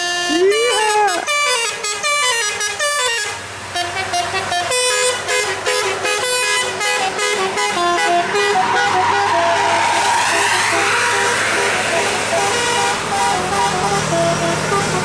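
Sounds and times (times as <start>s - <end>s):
bus engine humming: 0.0s - 15.0s
musical air horn tune: 0.0s - 15.0s
road noise: 0.0s - 15.0s.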